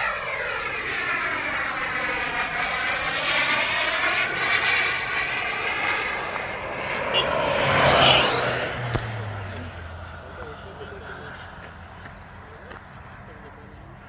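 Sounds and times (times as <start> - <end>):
model jet engines in flight: 0.0 - 14.0.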